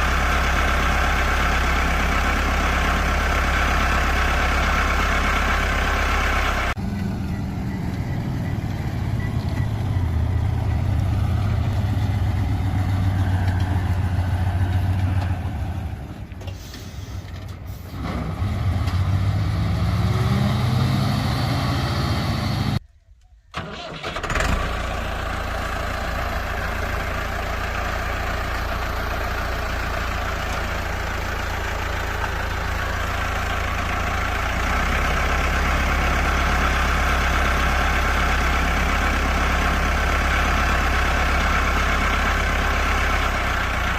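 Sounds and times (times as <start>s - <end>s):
vehicle engine running: 0.0s - 17.4s, 24.3s - 43.9s.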